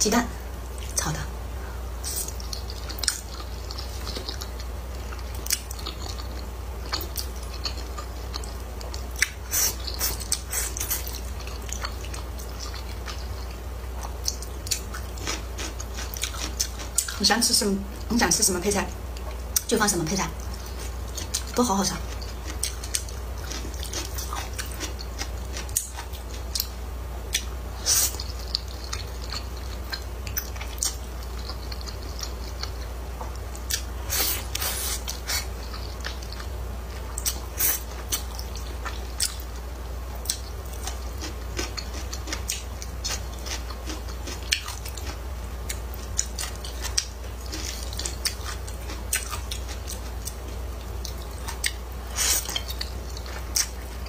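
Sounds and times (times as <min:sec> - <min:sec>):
person chewing and slurping: 0:02.0 - 0:17.1, 0:20.4 - 0:26.7, 0:27.3 - 0:39.4, 0:40.2 - 0:54.0.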